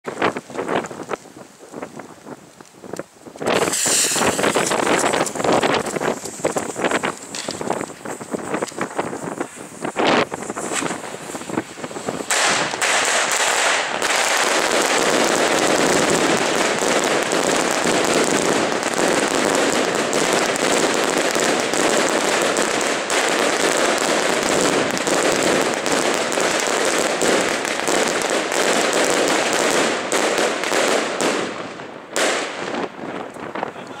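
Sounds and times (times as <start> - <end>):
firework bangs: 3.4 - 34.0
firework shots whistling: 3.5 - 31.6.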